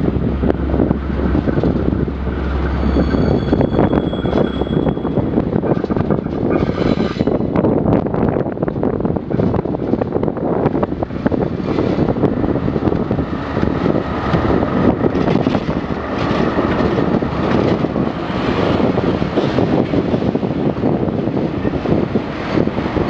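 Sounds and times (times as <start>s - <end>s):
diesel locomotive engines: 0.0s - 23.0s
wagons rolling on rails: 0.0s - 23.0s.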